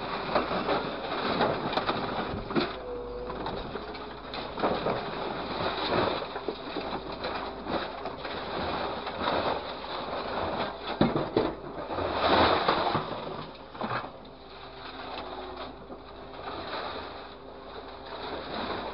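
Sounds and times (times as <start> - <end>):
engine and hydraulics humming: 0.0 - 18.9.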